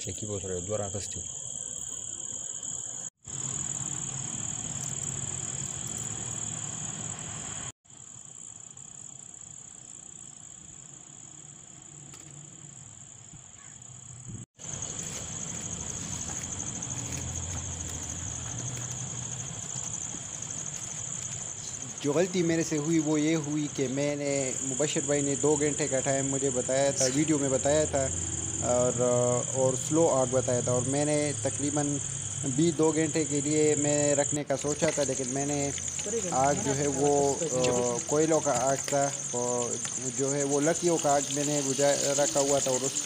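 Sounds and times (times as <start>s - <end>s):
crickets chirring: 0.0s - 43.0s.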